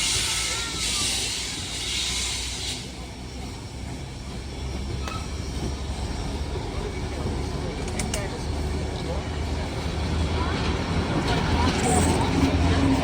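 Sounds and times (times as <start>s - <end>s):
steam locomotive hissing steam: 0.0s - 13.0s.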